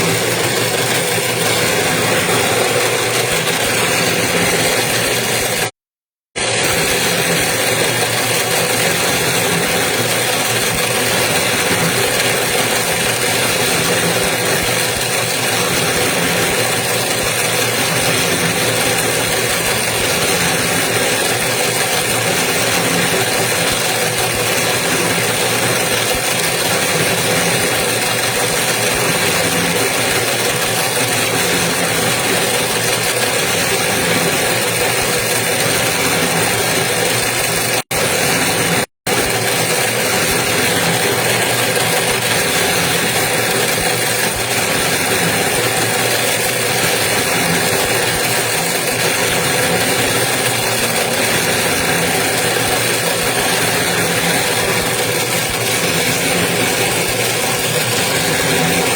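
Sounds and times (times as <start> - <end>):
coil-winding machine motor drone: 0.0 - 5.8, 6.4 - 58.9.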